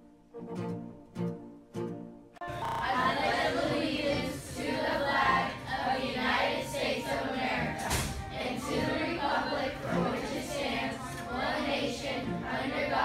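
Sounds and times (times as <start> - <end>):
background music: 0.0 - 13.0
children reciting in unison: 2.6 - 13.0.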